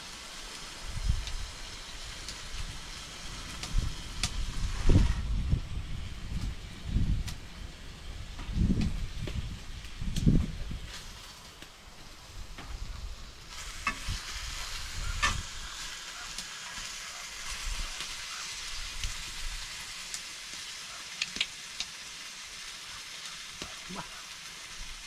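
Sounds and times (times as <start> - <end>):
campfire pops and crackles: 0.0 - 25.0
steak sizzling: 0.0 - 25.0.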